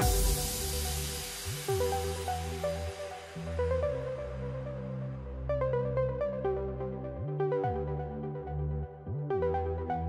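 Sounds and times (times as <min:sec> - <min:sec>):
synth bass notes: 0:00.0 - 0:10.0.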